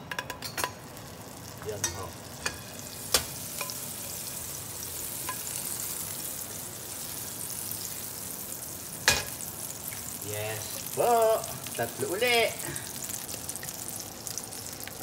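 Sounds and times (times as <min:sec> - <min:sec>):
butter sizzling in frying pan: 0:00.5 - 0:15.0.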